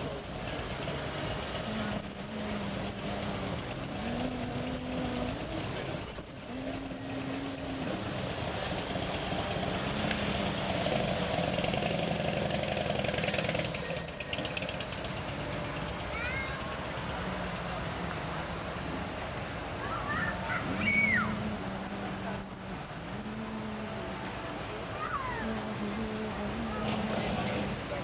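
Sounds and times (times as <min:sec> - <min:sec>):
background noise: 0:00.0 - 0:28.0
vehicle engine running: 0:00.0 - 0:28.0.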